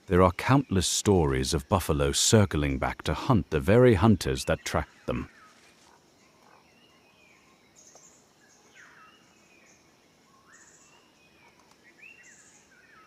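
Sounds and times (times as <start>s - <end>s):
birds chirping: 0.0s - 13.0s
soft background hiss: 0.0s - 13.0s.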